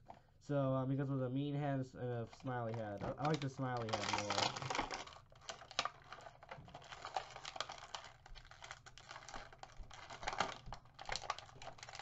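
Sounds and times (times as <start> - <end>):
plastic parts clicking and rustling: 2.3 - 12.0.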